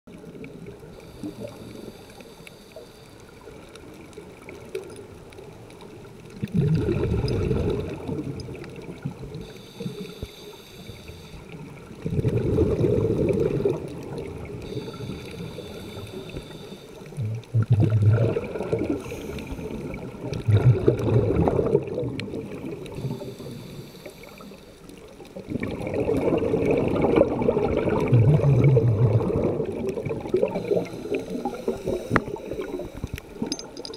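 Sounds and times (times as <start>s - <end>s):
underwater exhaled bubbles: 0.1s - 33.9s.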